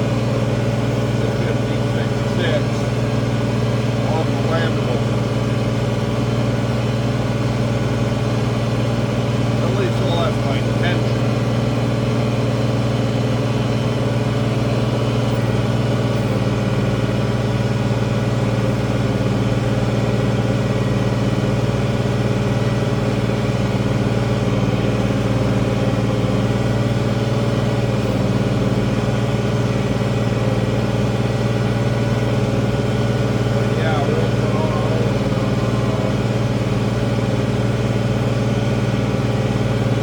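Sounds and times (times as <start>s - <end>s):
tractor diesel engine under load: 0.0s - 40.0s.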